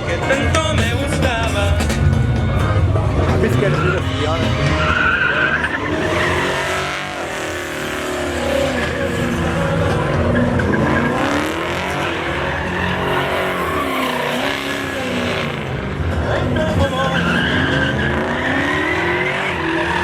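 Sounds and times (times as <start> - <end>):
truck engine revving: 0.0 - 20.0
tyres squealing on pavement: 0.0 - 20.0.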